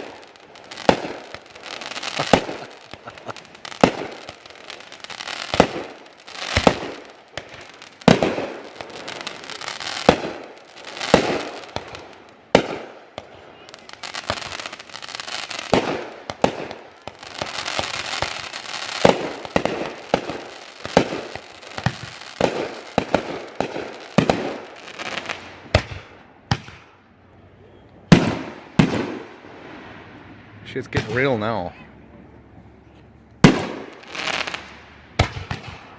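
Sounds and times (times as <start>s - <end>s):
fireworks banging: 0.0s - 27.0s, 28.1s - 31.7s, 33.4s - 35.9s
fireworks crackling: 0.0s - 27.0s, 28.1s - 31.7s, 33.4s - 35.9s.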